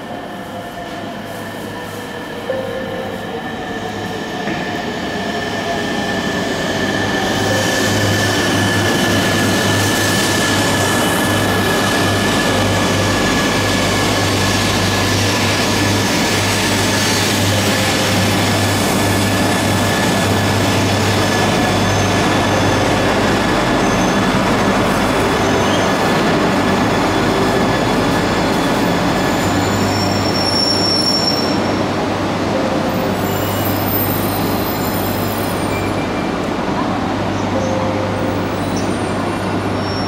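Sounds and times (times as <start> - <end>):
train rolling past: 0.0 - 40.0.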